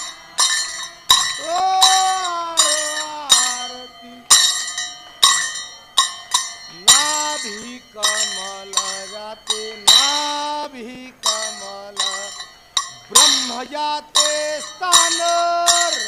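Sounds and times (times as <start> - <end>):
voices singing devotional song: 0.0 - 6.1, 6.7 - 16.0
temple bell ringing: 0.0 - 16.0.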